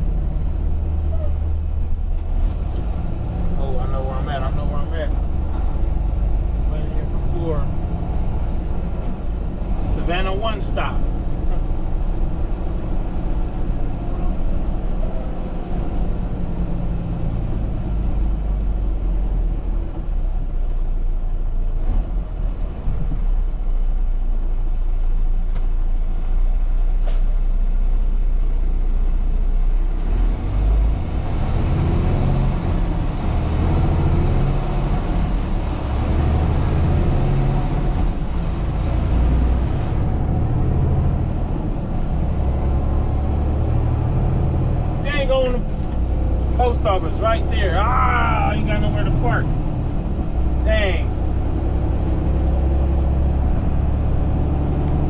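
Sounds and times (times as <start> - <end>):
road noise: 0.0 - 55.0
truck diesel engine rumble: 0.0 - 55.0.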